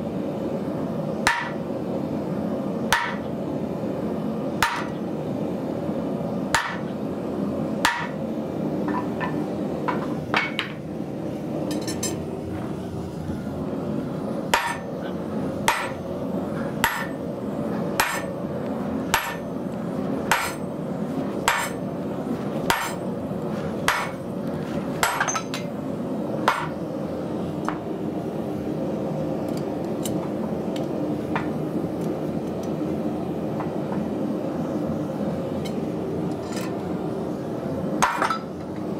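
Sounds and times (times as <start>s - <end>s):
constant hum: 0.0s - 38.9s.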